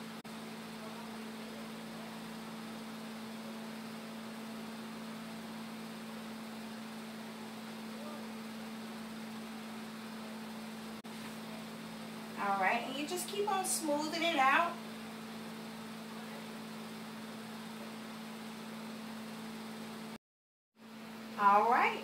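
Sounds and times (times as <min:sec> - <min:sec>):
low electrical hum: 0:00.0 - 0:20.2, 0:20.8 - 0:22.0.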